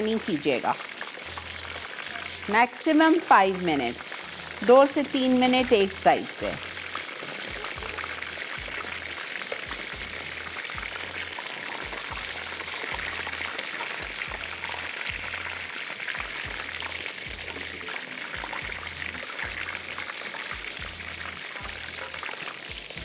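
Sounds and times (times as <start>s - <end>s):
patties sizzling in hot oil: 0.0s - 23.0s.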